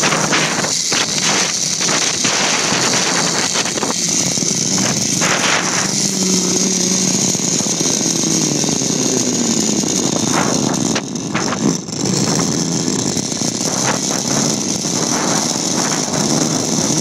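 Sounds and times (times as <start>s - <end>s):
pulleys whirring on cable: 0.0s - 17.0s
wind on microphone: 0.0s - 17.0s.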